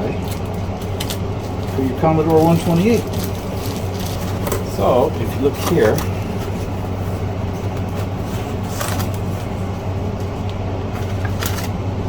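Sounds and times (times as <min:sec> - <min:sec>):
low background hum: 0:00.0 - 0:12.0
rustling of handling: 0:00.2 - 0:11.7.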